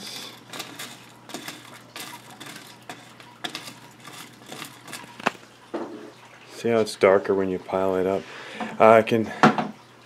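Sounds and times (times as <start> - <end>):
aquarium low hum: 0.0 - 10.0.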